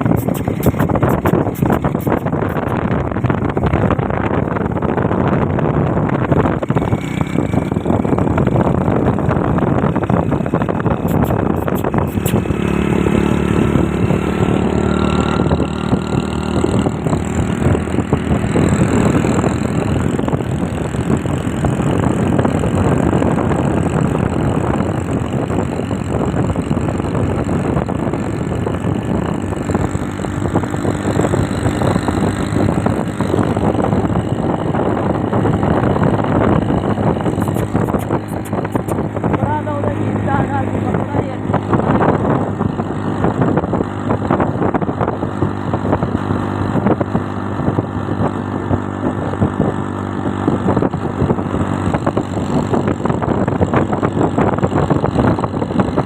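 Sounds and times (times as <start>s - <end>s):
motorcycle engine: 0.0s - 56.0s
wind on microphone: 0.0s - 56.0s.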